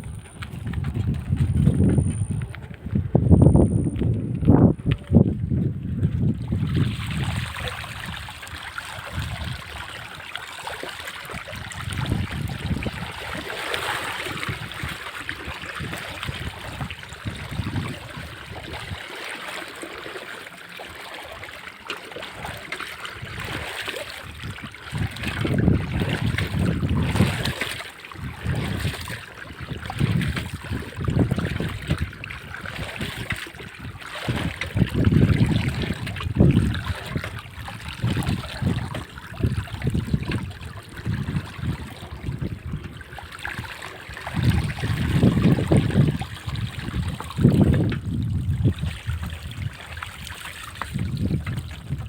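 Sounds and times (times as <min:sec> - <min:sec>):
wind buffeting microphone: 0:00.0 - 0:19.0, 0:22.3 - 0:52.0
floodwater rushing: 0:05.8 - 0:52.0.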